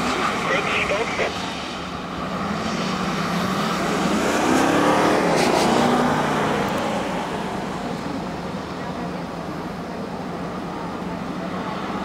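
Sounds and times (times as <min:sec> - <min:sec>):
car engine accelerating: 0:00.0 - 0:09.8.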